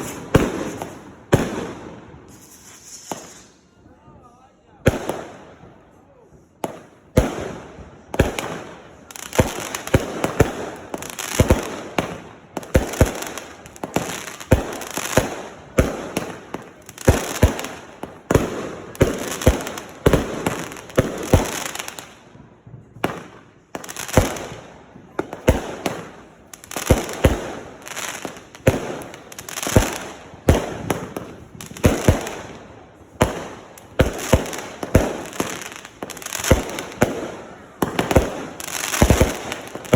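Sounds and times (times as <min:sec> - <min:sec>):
fireworks bangs with hiss: 0:00.0 - 0:39.9.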